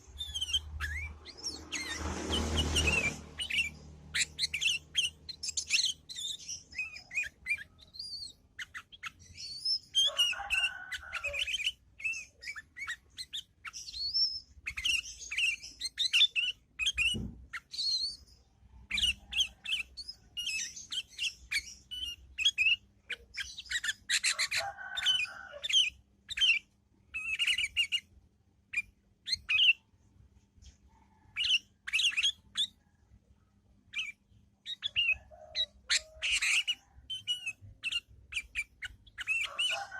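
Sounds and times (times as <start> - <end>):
bird chirping and twittering: 0.0 - 30.0, 30.6 - 33.1, 33.7 - 39.9.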